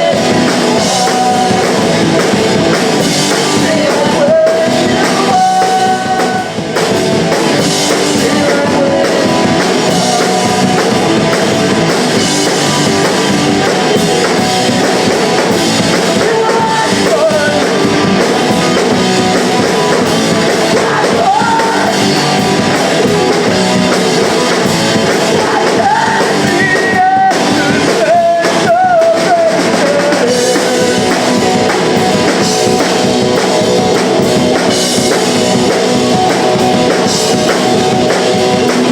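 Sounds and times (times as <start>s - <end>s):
person singing: 0.0s - 38.9s
punk rock band playing live: 0.0s - 38.9s.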